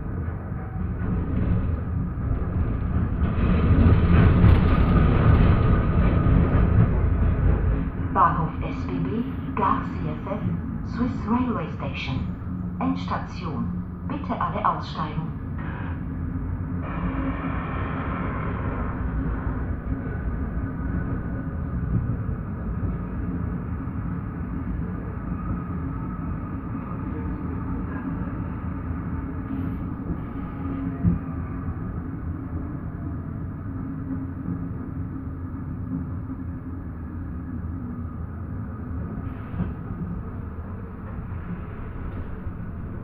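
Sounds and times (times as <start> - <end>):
tram rumble: 0.0 - 43.0.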